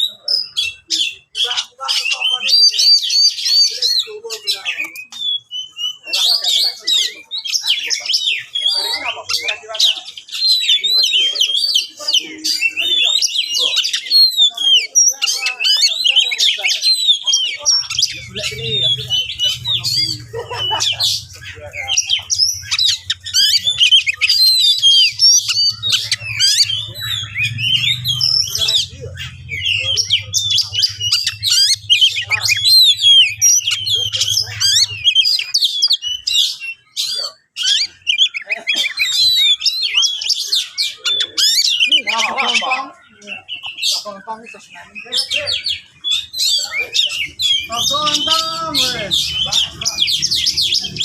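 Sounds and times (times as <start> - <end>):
songbird singing agitated song: 0.1 - 51.0.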